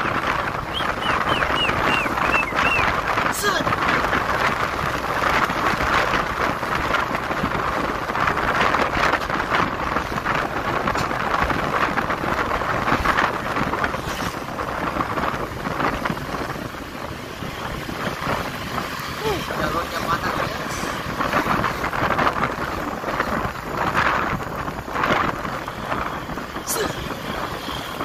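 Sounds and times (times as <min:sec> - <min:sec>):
road and vehicle noise: 0:00.0 - 0:28.0
wind noise on microphone: 0:00.0 - 0:28.0.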